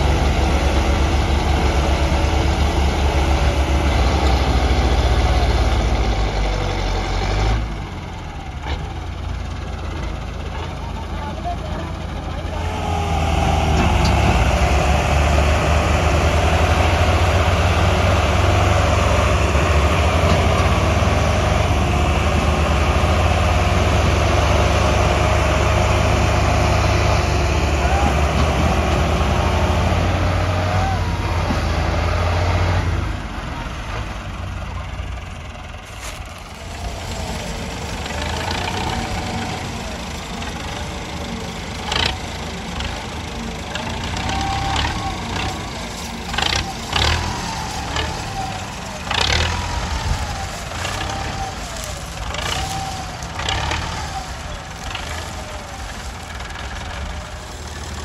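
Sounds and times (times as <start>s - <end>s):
tractor engines straining: 0.0s - 58.0s.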